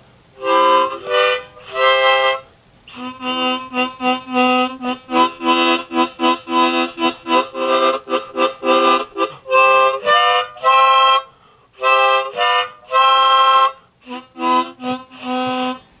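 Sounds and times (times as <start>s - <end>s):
harmonica playing chords: 0.4s - 16.0s.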